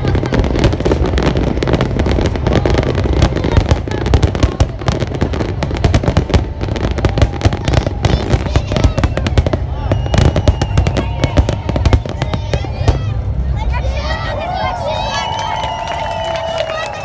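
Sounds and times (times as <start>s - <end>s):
fireworks cracks and bangs: 0.0s - 13.8s
low rumble: 0.0s - 14.9s.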